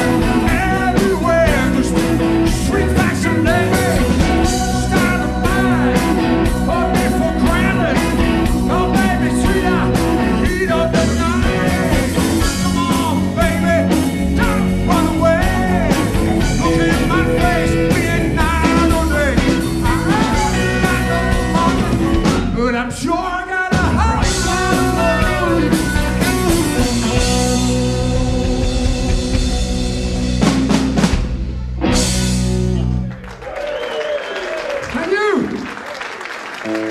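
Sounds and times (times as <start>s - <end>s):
electric guitar: 0.0s - 22.9s, 23.7s - 33.5s
drum kit: 0.0s - 23.0s, 23.7s - 33.6s
bass guitar: 0.0s - 33.6s.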